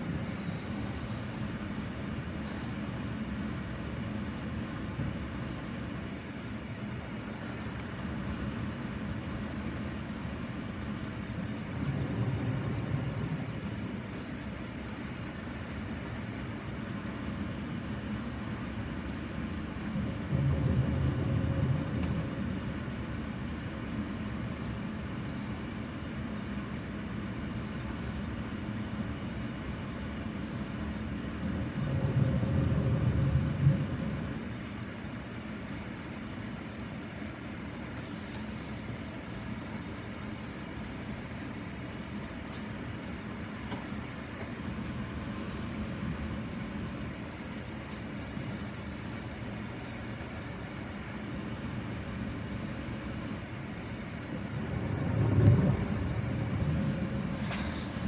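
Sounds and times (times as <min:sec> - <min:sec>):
low background rumble: 0:00.0 - 0:58.0.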